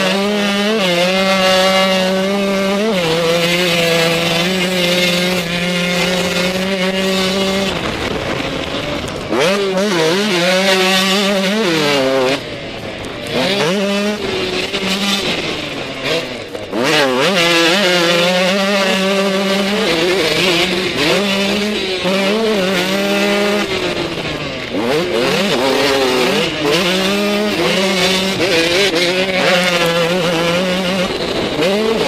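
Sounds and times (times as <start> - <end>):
two-stroke motocross bike revving: 0.0 - 32.0.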